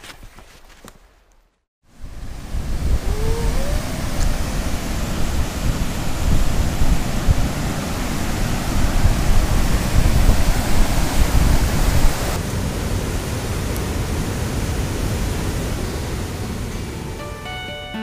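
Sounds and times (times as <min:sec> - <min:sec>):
whitewater roaring: 0:02.0 - 0:17.3.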